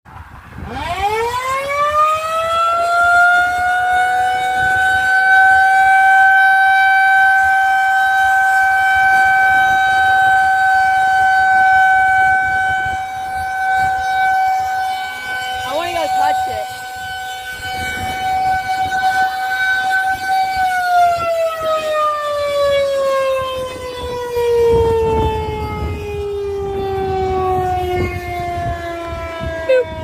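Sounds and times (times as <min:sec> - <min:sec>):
warning siren winding up: 0:00.6 - 0:30.0.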